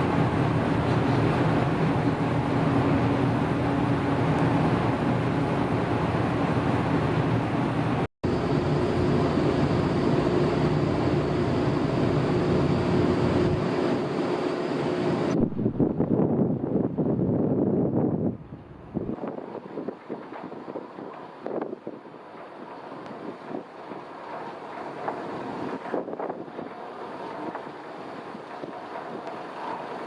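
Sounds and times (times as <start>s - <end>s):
ferry machinery hum and rushing: 0.0s - 30.0s.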